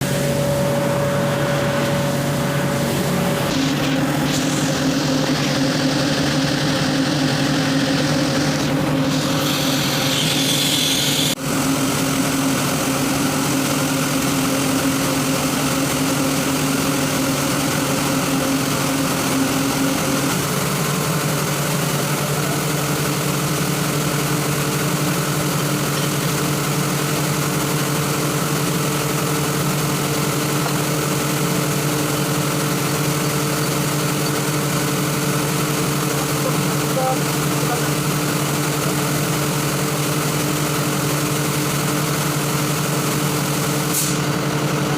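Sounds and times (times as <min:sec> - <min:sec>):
air compressor humming: 0:00.0 - 0:44.9.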